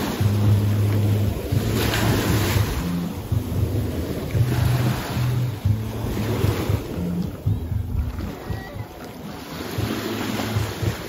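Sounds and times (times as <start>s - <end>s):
small waves washing: 0.0s - 11.0s
low rumble: 0.1s - 9.1s.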